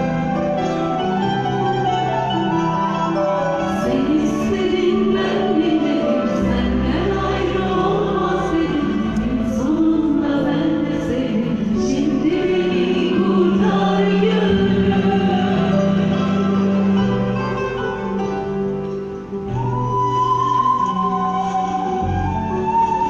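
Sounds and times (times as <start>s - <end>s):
choir singing gliding melody: 0.0s - 23.0s.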